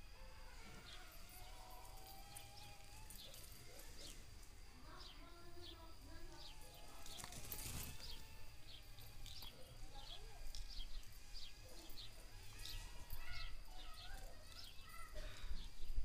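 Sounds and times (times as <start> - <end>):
faint high-pitched whine: 0.0 - 16.0
small birds chirping: 0.0 - 16.0.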